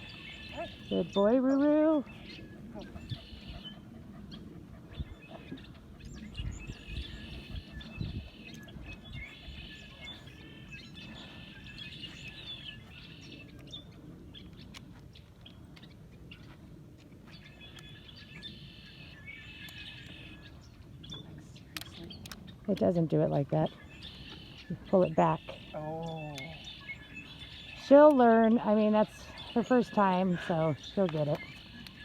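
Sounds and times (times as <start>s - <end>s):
birds singing trilling song: 0.0s - 32.0s.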